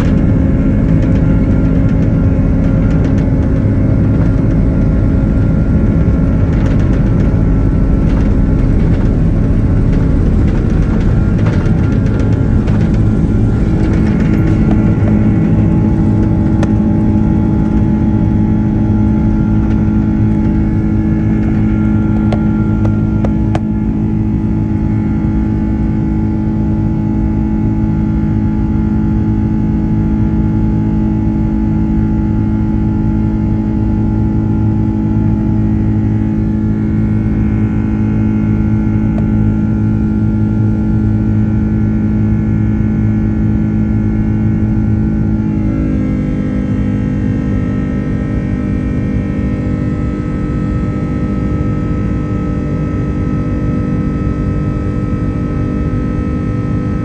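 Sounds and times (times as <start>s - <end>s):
jet engine loud drone: 0.0s - 57.0s.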